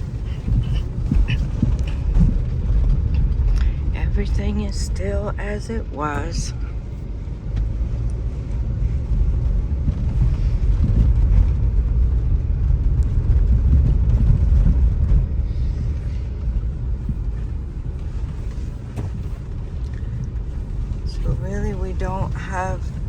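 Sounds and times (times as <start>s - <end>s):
car driving rumble inside: 0.0s - 23.0s.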